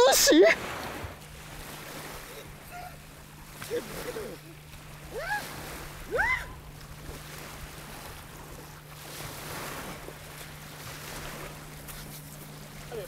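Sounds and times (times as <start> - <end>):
steady low hum: 0.0 - 13.0
water lapping and splashing: 0.0 - 13.0.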